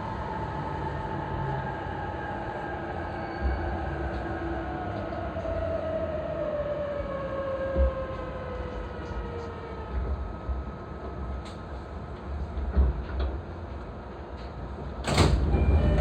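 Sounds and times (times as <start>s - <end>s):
train wheel rumble: 0.0s - 16.0s.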